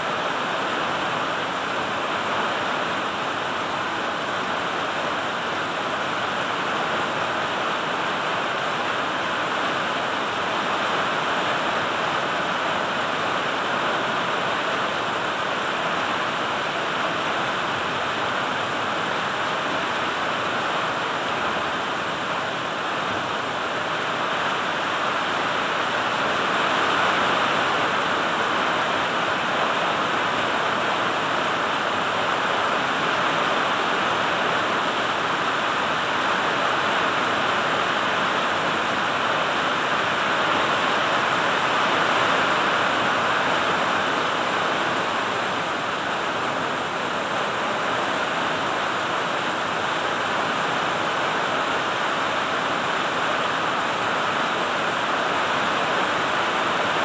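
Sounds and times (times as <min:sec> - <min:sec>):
rain falling on leaves: 0:00.0 - 0:57.0.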